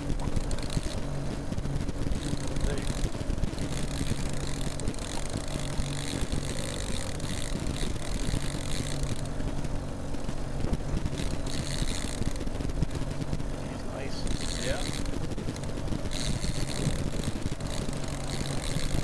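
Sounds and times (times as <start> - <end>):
boat motor running: 0.0 - 19.0
wind buffeting microphone: 0.0 - 19.0.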